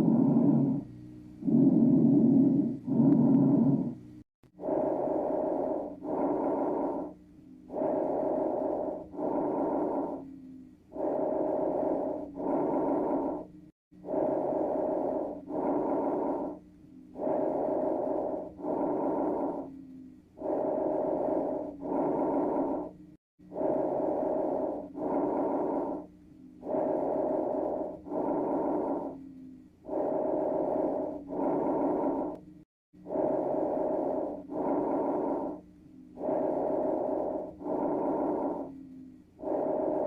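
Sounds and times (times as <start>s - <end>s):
lung breathing sounds: 0.0s - 40.0s
musical tone in breaths: 0.0s - 40.0s.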